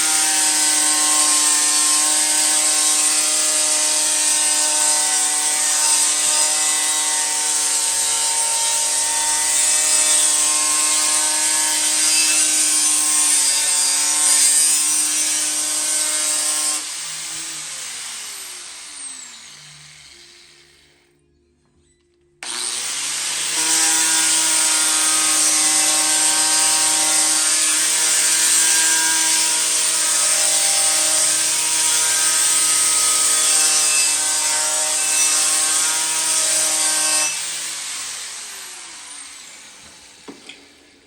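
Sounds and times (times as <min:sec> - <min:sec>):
power tool motor whine: 0:00.0 - 0:21.1, 0:22.4 - 0:40.6.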